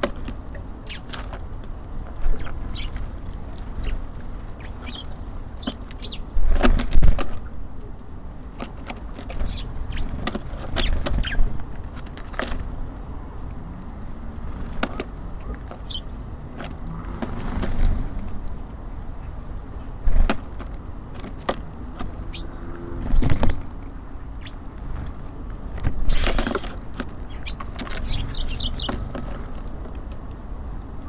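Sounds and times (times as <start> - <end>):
birds pecking and landing: 0.0 - 13.0, 13.8 - 31.0
city traffic rumble: 0.0 - 31.0.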